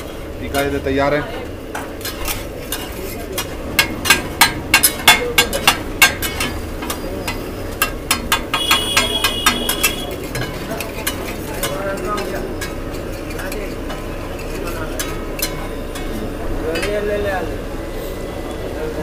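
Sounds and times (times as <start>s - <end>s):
metal spatula clacking on griddle: 1.7s - 17.1s.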